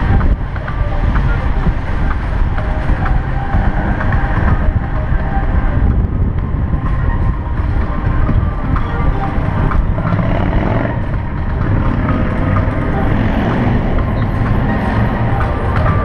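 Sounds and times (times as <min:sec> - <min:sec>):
bicycle rolling noise: 0:00.0 - 0:16.0
traffic noise: 0:00.0 - 0:16.0
wind rumble: 0:00.0 - 0:16.0.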